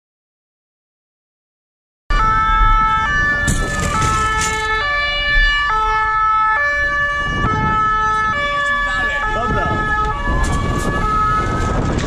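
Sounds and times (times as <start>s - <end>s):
two-tone siren: 2.1s - 12.0s
wailing siren: 2.1s - 12.0s.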